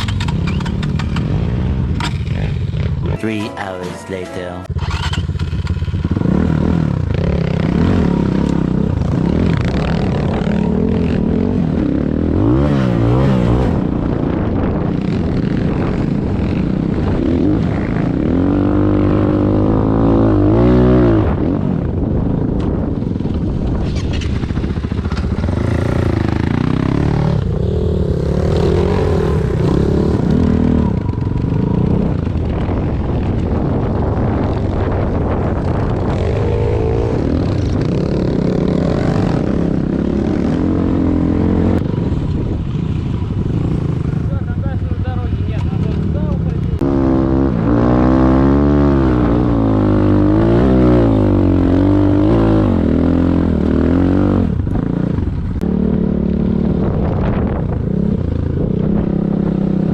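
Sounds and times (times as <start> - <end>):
motorcycle engine revving: 0.0 - 3.2, 4.6 - 59.9.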